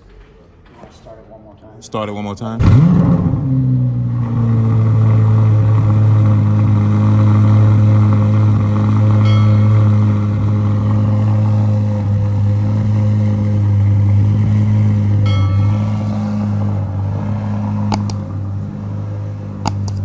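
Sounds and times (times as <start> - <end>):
car engine idling: 2.6 - 20.0.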